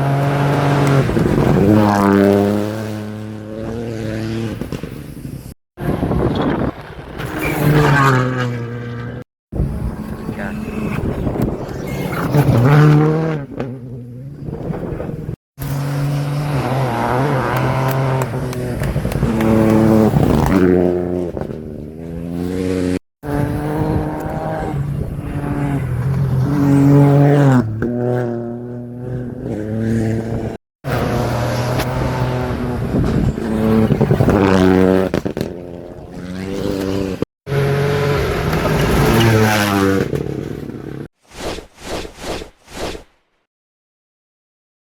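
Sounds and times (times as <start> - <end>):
rally car engines revving: 0.0 - 41.1.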